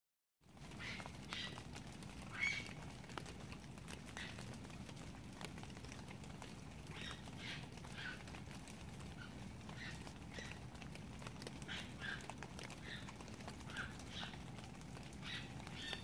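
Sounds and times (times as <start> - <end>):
rain falling: 0.4 - 16.0.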